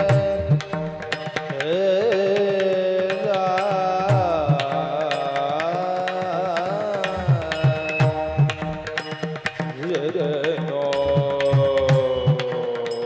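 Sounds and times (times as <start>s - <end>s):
man singing a long high line: 0.0s - 13.0s.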